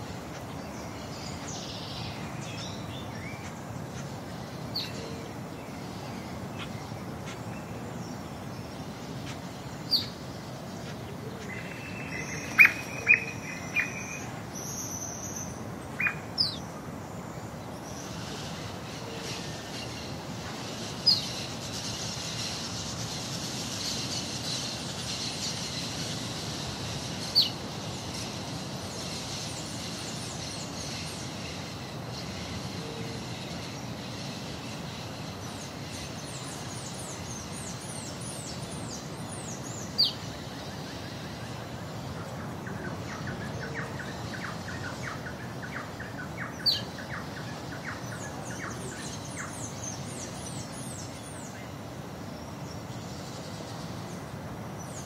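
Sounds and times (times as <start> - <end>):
birds chirping and singing: 0.0 - 51.8
steady background hum: 0.0 - 55.0.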